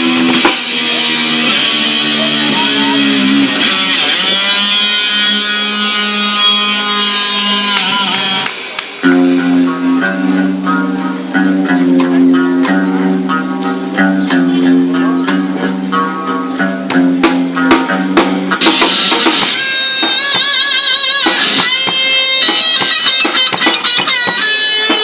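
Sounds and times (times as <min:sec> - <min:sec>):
rock guitar music: 0:00.0 - 0:25.0.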